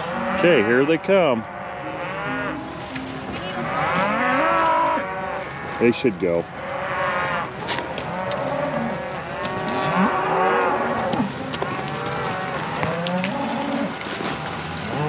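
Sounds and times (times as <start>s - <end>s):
cattle mooing: 0.0s - 15.0s.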